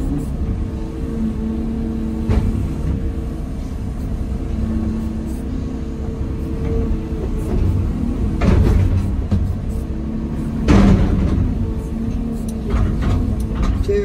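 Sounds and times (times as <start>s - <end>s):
excavator diesel engine rumble: 0.0s - 14.0s
hydraulic whine: 0.0s - 14.0s.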